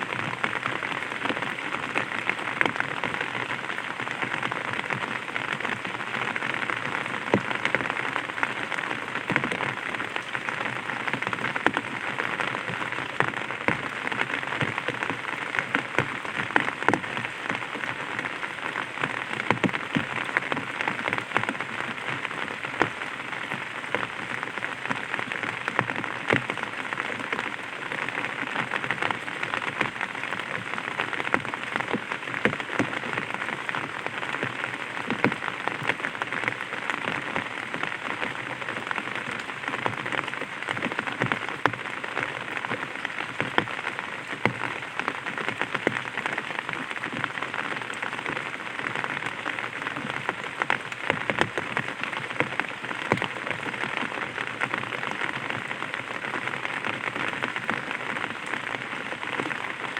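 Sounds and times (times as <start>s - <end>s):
rain pattering on an umbrella: 0.0s - 59.9s.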